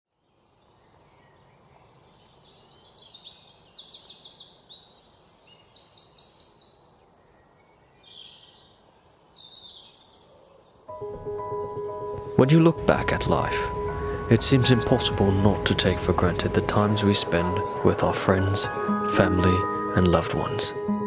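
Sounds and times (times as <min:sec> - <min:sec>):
soft outdoor hiss: 0:00.2 - 0:20.8
birds chirping: 0:00.4 - 0:21.0.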